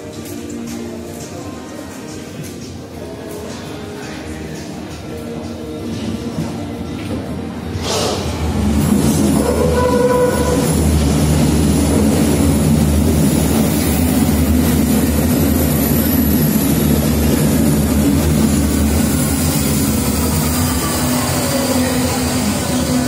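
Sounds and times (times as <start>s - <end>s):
train wheels rumbling on rail: 0.1s - 23.0s.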